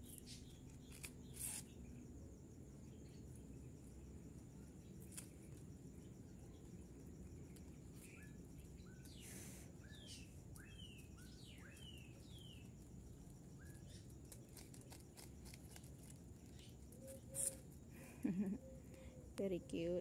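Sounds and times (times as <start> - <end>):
faint bird chirps: 0.0 - 14.9, 15.6 - 20.0.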